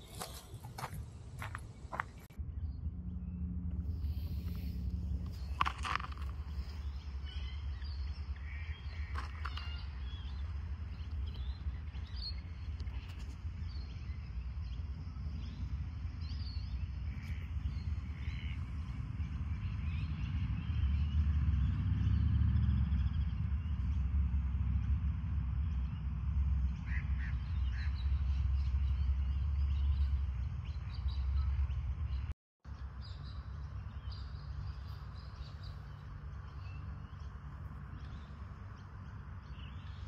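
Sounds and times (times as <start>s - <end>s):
wind rumble on microphone: 0.0s - 40.0s.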